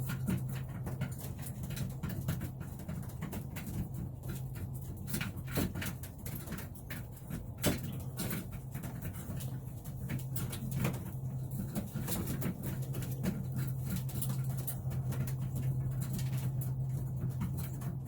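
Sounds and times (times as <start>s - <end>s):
taps and clicks of pigeons moving: 0.0s - 18.0s.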